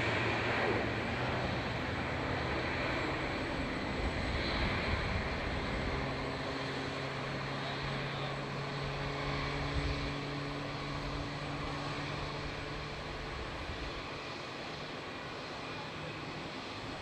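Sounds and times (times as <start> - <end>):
airliner engines rushing: 0.0 - 17.0
low engine hum: 0.0 - 17.0.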